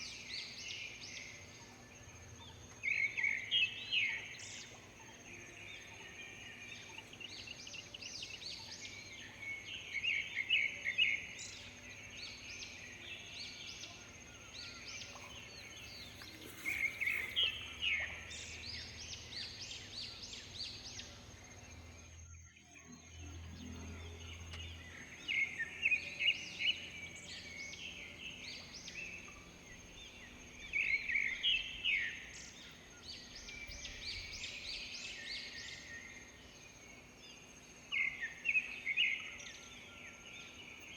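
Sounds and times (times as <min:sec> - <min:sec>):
bird chirps: 0:00.0 - 0:40.9
birds singing: 0:00.0 - 0:40.9.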